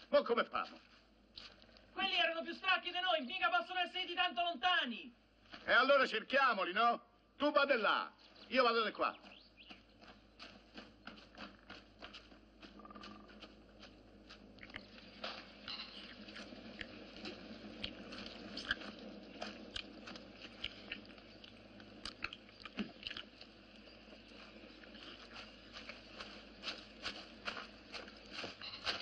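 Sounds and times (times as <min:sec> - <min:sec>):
campfire crackling: 0:00.0 - 0:04.2, 0:08.0 - 0:29.0.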